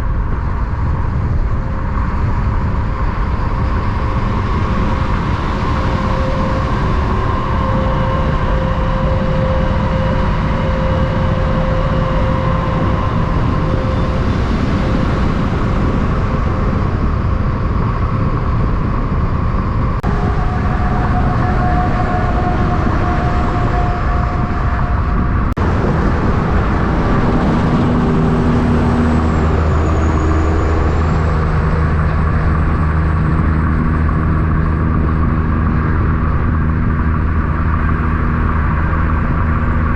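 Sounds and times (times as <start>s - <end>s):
deep engine: 0.0s - 39.9s
road traffic passing: 0.0s - 39.9s.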